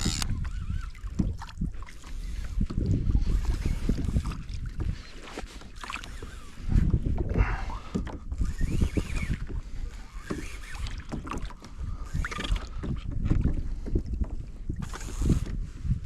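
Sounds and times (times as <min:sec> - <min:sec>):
wind buffeting microphone: 0:00.0 - 0:05.2, 0:06.1 - 0:16.0
water slapping against kayak hull: 0:00.0 - 0:16.0.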